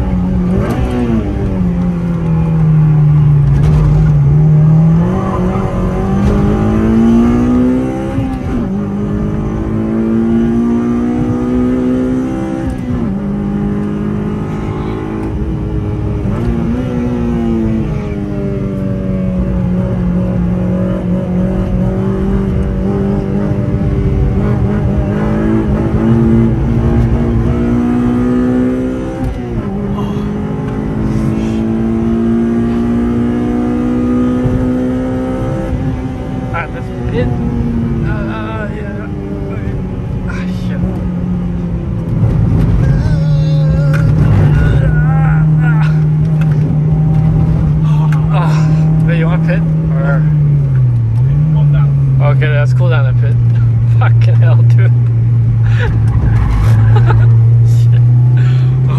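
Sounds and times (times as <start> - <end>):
car engine revving through gears: 0.0 - 58.9
road and tyre noise: 0.0 - 58.9.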